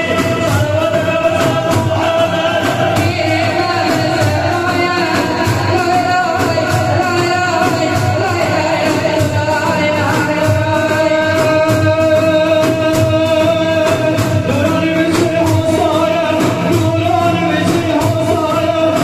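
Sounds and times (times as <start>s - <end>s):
frame drums: 0.0s - 19.0s
large drum beating: 0.0s - 19.0s
men singing a hymn: 0.0s - 19.0s.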